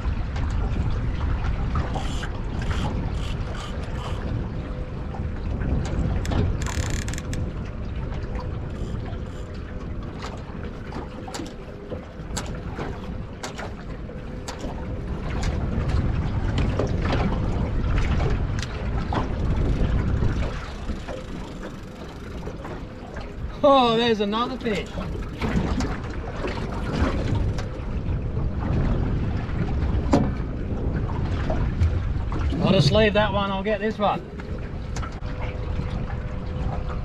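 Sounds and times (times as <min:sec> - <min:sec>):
water lapping at boat: 0:00.0 - 0:37.0
wind buffeting microphone: 0:00.0 - 0:37.0.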